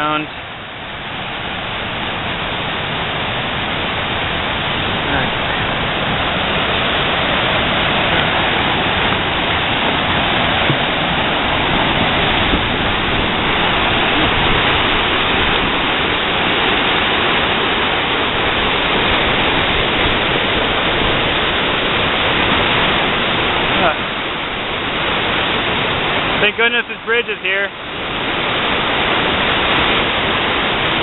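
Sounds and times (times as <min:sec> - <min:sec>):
river rapids rushing: 0:00.0 - 0:31.0.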